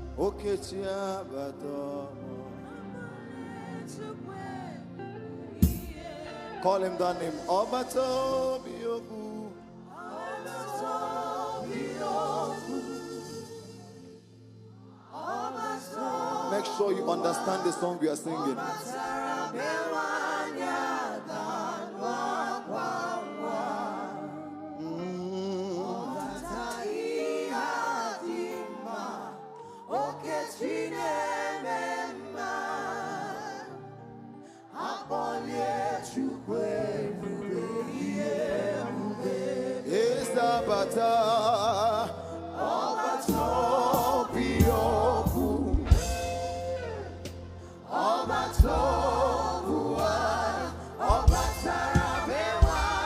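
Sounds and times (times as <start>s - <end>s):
voices singing gospel song: 0.0s - 53.0s.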